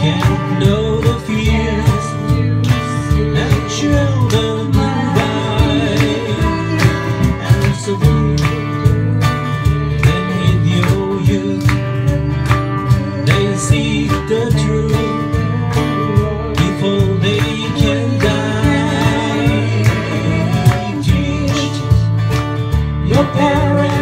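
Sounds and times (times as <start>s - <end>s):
person singing: 0.0s - 22.2s, 23.0s - 24.0s
acoustic guitar strumming: 0.0s - 24.0s
electric guitar: 0.0s - 24.0s
mandolin: 0.0s - 24.0s.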